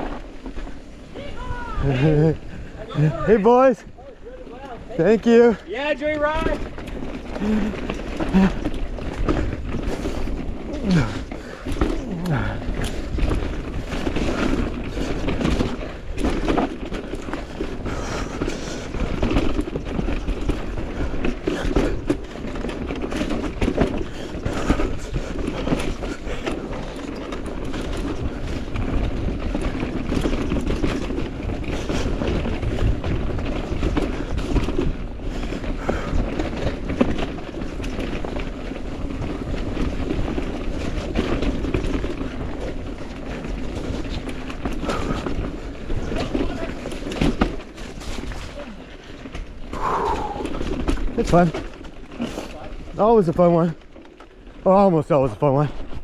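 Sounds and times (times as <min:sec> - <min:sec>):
wind noise: 0:00.0 - 0:52.2
bike knocking and rattling: 0:00.0 - 0:56.0
bike tyre noise: 0:00.0 - 0:56.0.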